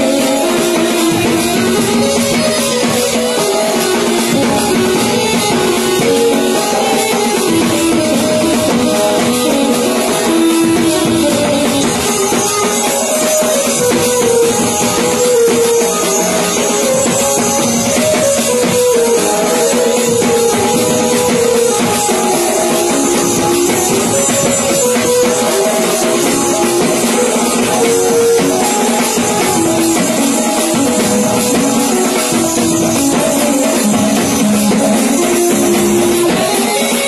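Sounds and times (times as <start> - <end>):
loud music with held notes: 0.0 - 37.0.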